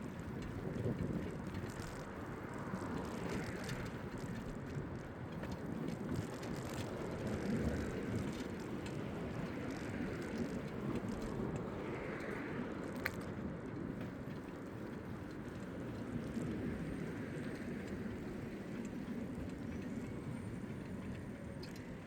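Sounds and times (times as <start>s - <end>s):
bicycle tyre rumble: 0.0s - 22.0s.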